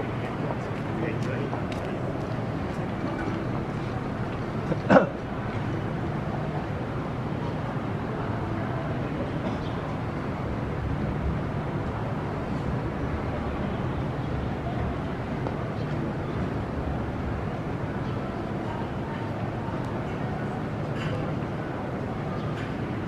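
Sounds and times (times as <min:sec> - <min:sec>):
city street rumble: 0:00.0 - 0:23.0.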